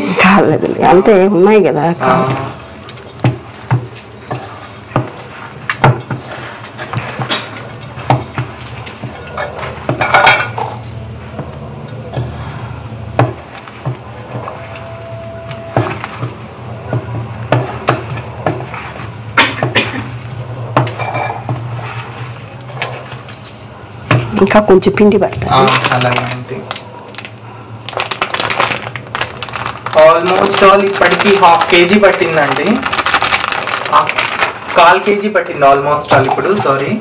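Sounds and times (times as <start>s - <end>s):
hands mixing in steel bowl: 2.3s - 24.6s, 28.4s - 37.0s.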